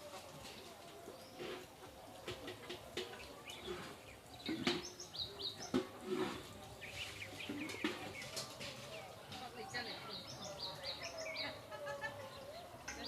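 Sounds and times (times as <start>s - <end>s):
small birds chirping: 0.4s - 13.0s.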